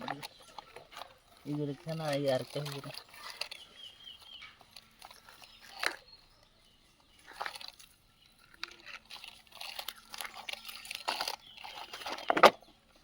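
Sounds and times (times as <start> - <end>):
small rocks clicking on plastic: 0.0 - 13.0.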